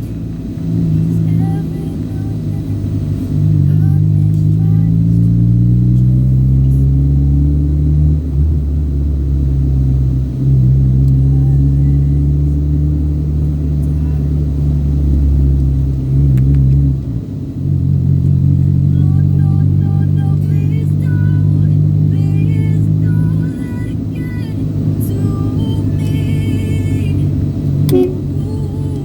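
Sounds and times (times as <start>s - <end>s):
car engine while driving: 0.0s - 29.0s
road rumble: 0.0s - 29.0s.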